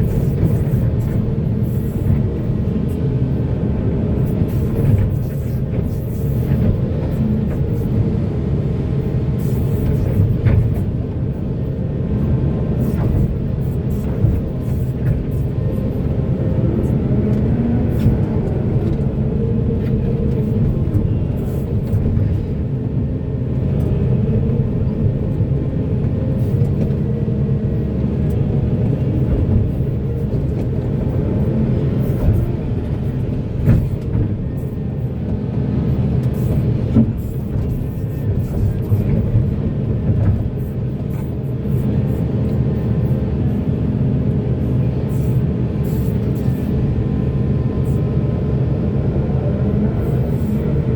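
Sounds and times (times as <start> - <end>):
heavy diesel machinery running: 0.0 - 50.9.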